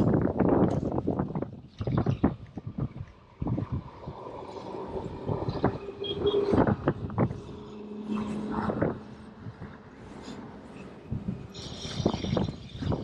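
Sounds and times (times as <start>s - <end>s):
wind gusting on microphone: 0.0s - 13.0s.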